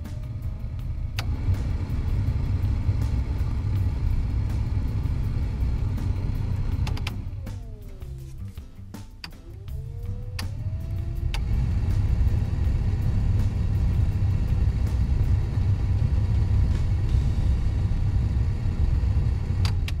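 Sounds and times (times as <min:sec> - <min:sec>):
air rushing from vents: 0:00.0 - 0:20.0
car blower motor running: 0:00.0 - 0:20.0.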